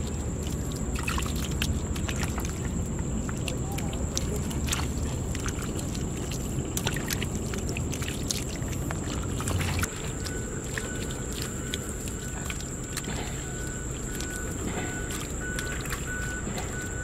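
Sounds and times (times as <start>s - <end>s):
hands slapping wet mud: 0.0s - 17.0s
steady low rumble: 0.0s - 17.0s.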